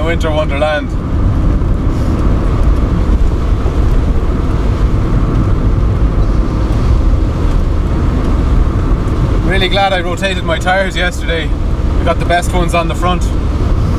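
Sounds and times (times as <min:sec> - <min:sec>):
car engine: 0:00.0 - 0:13.9
tyres on slushy road: 0:00.0 - 0:13.9.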